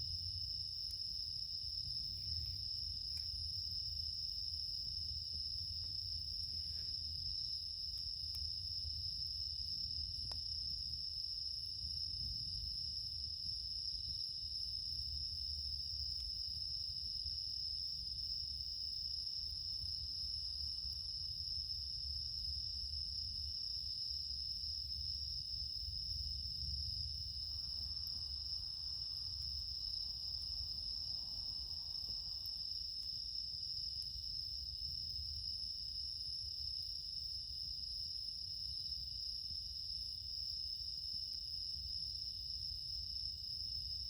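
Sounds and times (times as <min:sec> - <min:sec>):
crickets chirring: 0:00.0 - 0:44.0.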